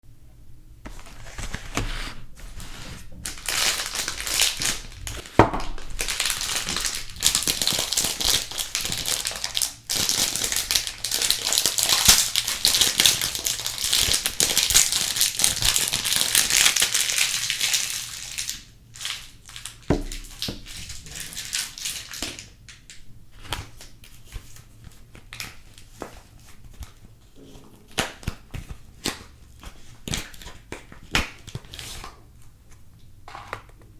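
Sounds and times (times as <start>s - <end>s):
wrapper crinkling and rustling: 0.9s - 32.5s.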